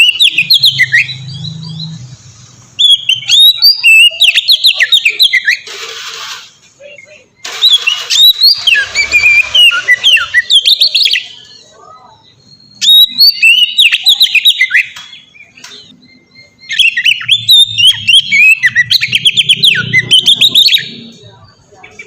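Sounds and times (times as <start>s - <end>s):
bird singing whistled notes: 0.0s - 5.7s, 6.8s - 21.1s.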